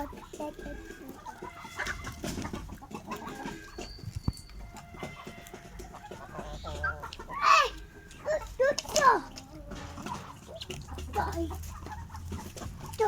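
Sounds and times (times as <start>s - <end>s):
fowl clucking: 0.0s - 13.0s.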